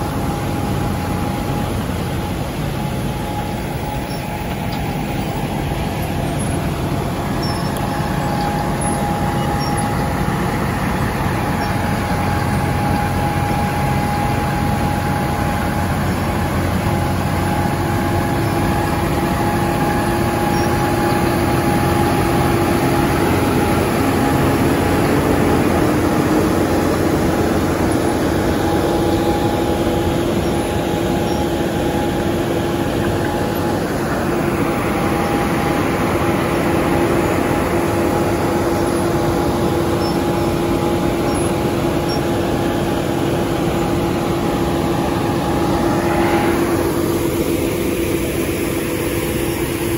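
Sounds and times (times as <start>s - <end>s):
high whine: 0.0s - 49.9s
road milling machine din: 0.0s - 49.9s.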